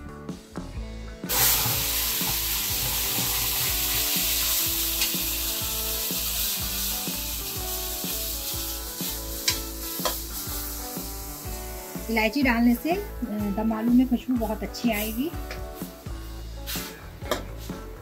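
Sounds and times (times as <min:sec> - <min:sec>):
paste sizzling in hot oil: 0:01.3 - 0:13.3, 0:13.9 - 0:18.0.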